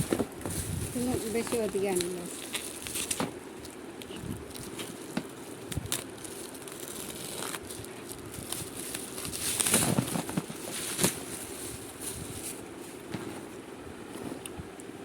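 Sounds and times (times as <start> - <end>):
packaging crinkling and rustling: 0.0 - 14.6.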